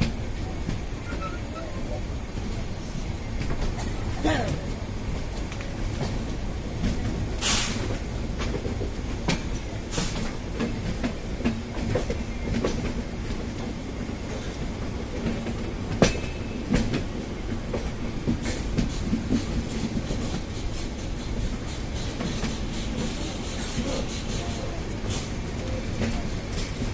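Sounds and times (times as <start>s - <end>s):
train running low rumble: 0.0s - 26.9s.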